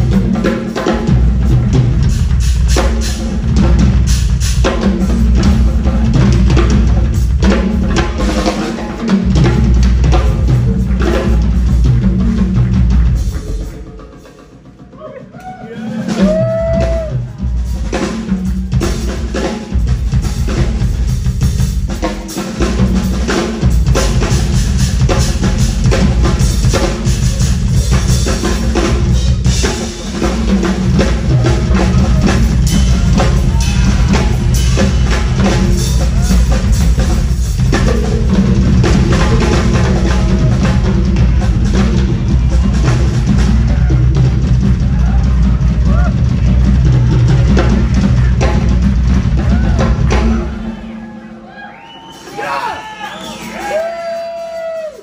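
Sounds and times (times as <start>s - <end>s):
rock drum solo: 0.0s - 51.0s, 51.8s - 55.0s.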